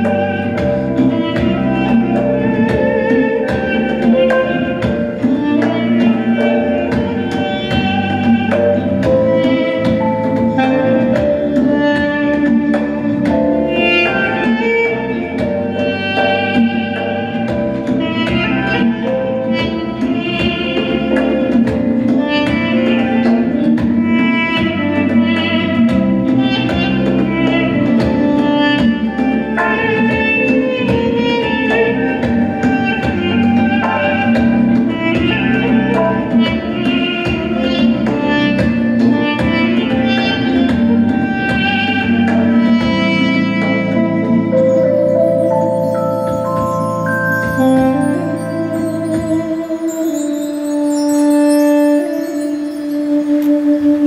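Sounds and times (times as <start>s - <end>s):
hand drums beating: 0.0s - 50.0s
double-reed woodwind melody: 0.0s - 54.0s
electronic keyboard chords: 0.0s - 54.0s.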